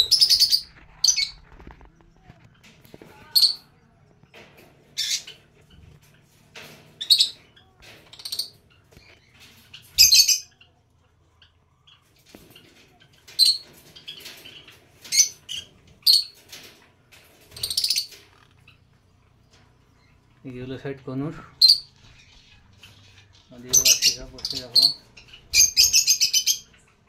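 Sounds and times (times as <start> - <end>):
parrots squawking and chirping: 0.0 - 1.8, 2.6 - 3.8, 4.8 - 20.4, 21.5 - 27.0.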